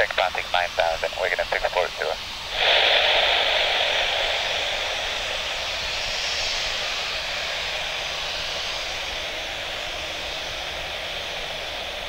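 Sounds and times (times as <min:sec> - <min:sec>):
jet engines running at low power: 0:00.0 - 0:12.0.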